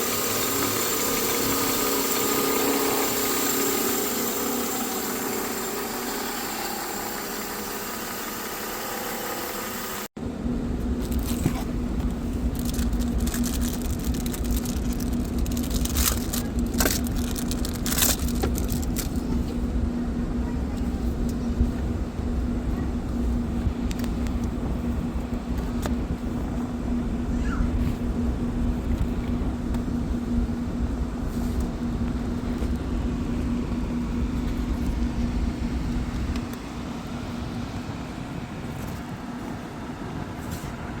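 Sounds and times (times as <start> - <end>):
car engine idling: 0.0 - 38.8.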